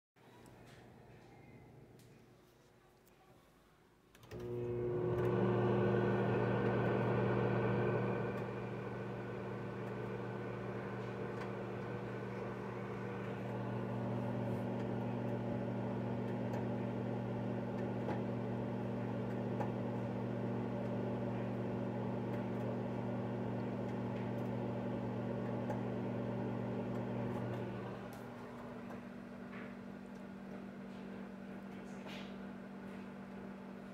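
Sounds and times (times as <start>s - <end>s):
microwave oven humming: 4.2s - 33.9s.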